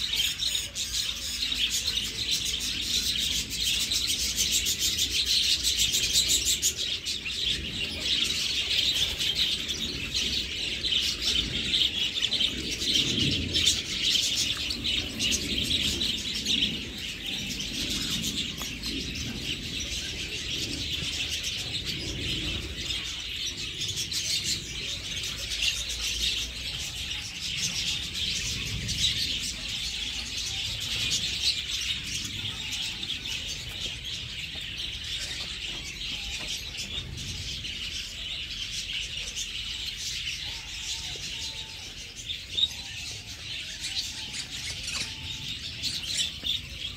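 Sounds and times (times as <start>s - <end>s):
birds chirping in chorus: 0.0s - 46.9s.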